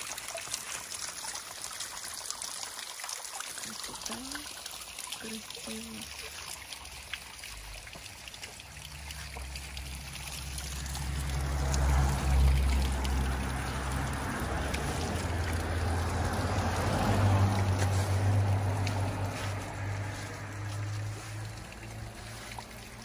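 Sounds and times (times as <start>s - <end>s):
spring water trickling over rock: 0.0s - 23.0s.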